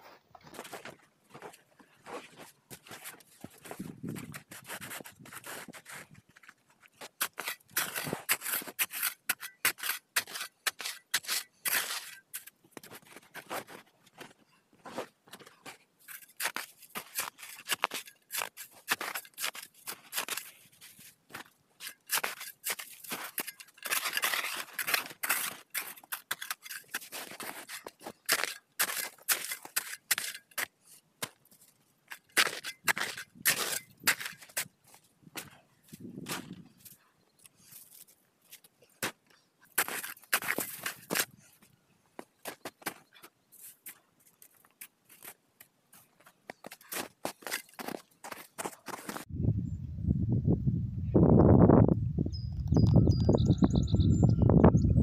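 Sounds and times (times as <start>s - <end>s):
scraping and crunching: 0.0s - 49.3s.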